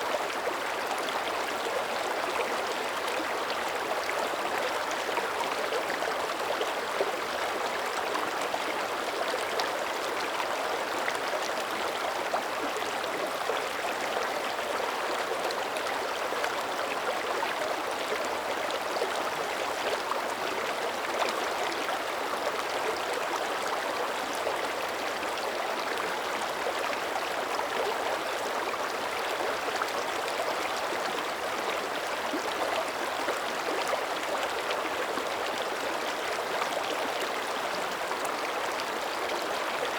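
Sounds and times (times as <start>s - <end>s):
creek water rushing and babbling: 0.0s - 39.9s.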